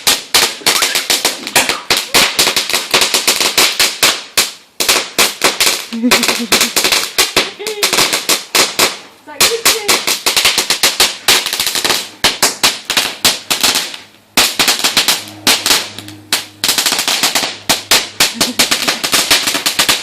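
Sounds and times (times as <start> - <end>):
firecrackers banging: 0.0 - 20.0.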